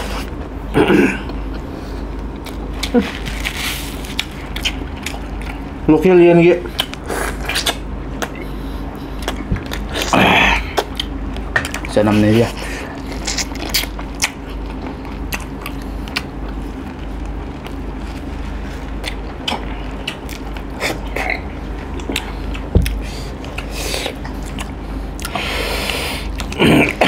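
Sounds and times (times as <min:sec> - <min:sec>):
steady low hum: 0:00.0 - 0:27.0
people chewing and mouth smacking: 0:01.1 - 0:05.8, 0:06.6 - 0:27.0.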